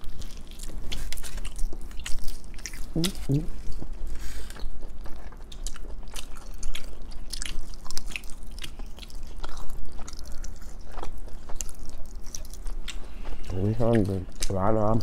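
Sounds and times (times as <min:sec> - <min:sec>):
people chewing wet smacks: 0:00.0 - 0:15.0
steady low hum: 0:00.0 - 0:15.0.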